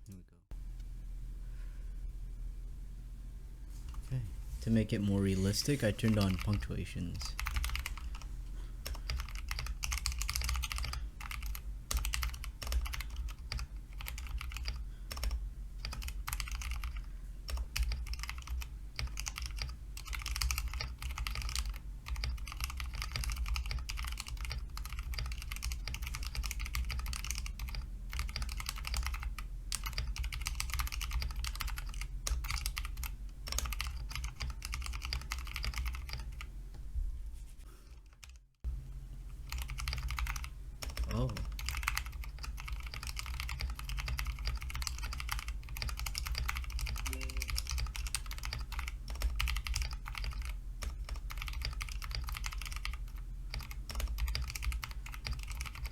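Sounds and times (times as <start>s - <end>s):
steady low hum: 0.0s - 55.9s
mechanical keyboard typing: 6.0s - 36.5s, 39.5s - 55.9s.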